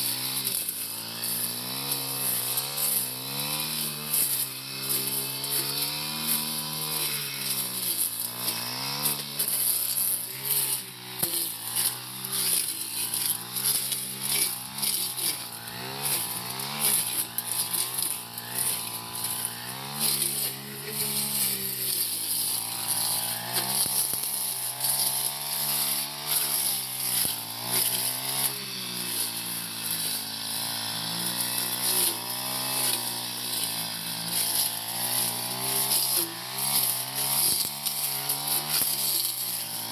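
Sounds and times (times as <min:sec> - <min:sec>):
brush cutter engine under load: 0:00.0 - 0:39.9.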